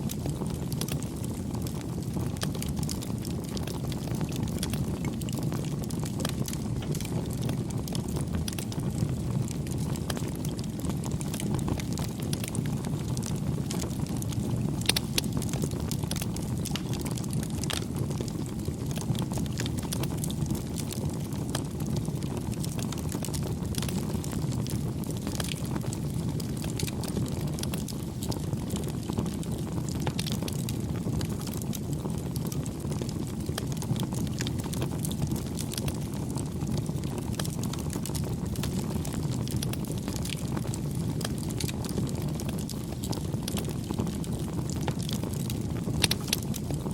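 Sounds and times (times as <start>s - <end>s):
campfire crackling: 0.0s - 46.9s
low rumble of flame: 0.0s - 46.9s.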